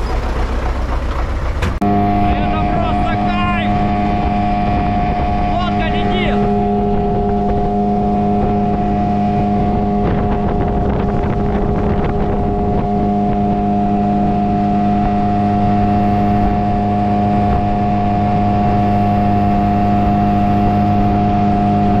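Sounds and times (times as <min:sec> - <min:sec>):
motorboat engine running: 0:00.0 - 0:22.0
wind: 0:00.0 - 0:22.0.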